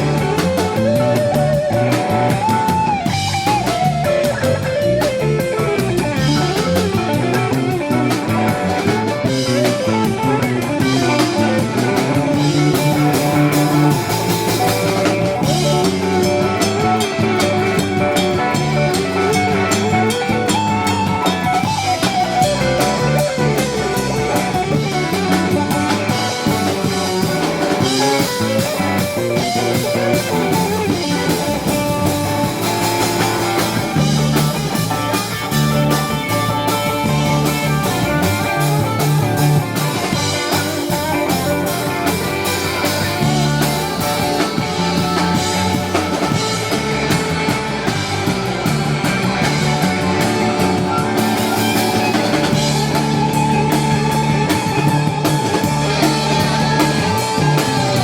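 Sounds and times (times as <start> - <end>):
drum kit: 0.0 - 58.0
lead guitar: 0.0 - 58.0
rock band playing live: 0.0 - 58.0.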